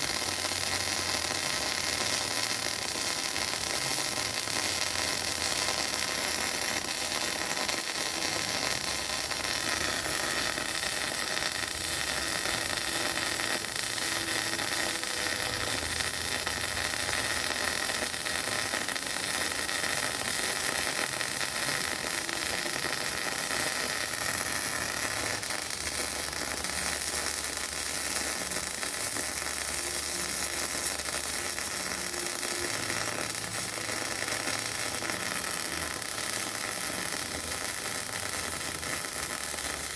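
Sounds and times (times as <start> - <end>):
welding arc hissing and crackling: 0.0 - 39.9.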